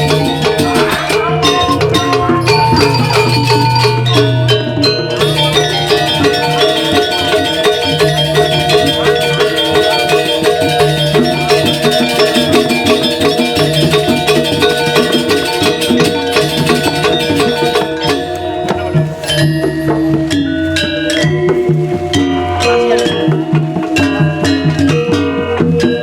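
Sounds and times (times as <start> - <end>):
metallophones striking fast: 0.0 - 22.2
drums: 0.0 - 26.0.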